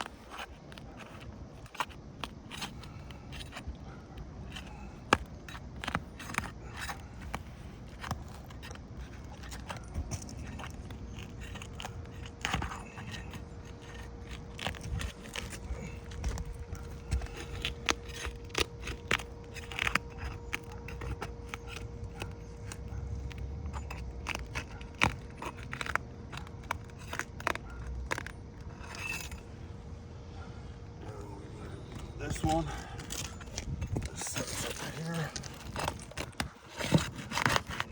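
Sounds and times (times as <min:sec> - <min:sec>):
pry bar scraping shingles: 0:00.0 - 0:29.8, 0:31.0 - 0:37.9
faint steady hum: 0:00.0 - 0:37.9.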